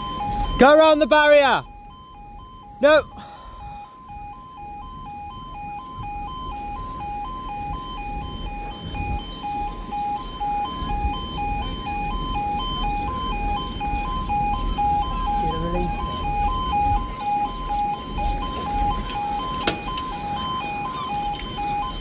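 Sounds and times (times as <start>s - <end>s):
two-tone crossing alarm: 0.0s - 22.0s.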